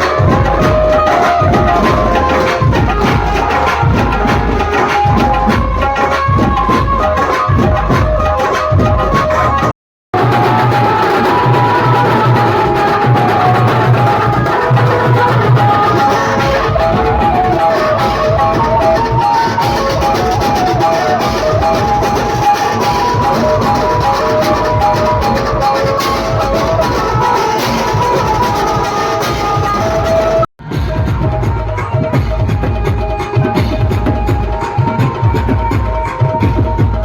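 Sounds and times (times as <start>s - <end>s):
procession music with drums: 0.0s - 37.0s.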